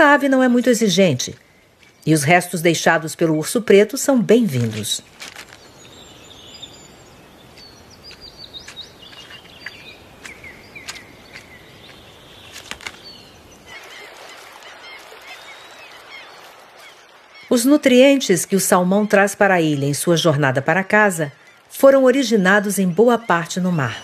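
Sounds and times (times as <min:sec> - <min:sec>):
birds chirping: 0:00.0 - 0:24.0
steady outdoor hiss: 0:00.0 - 0:24.0.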